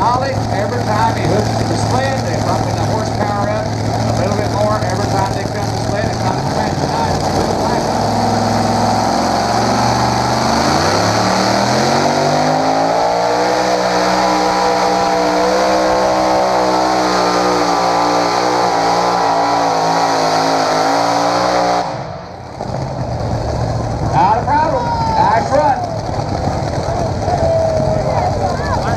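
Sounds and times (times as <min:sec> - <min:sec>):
engine at full throttle: 0:00.0 - 0:28.9.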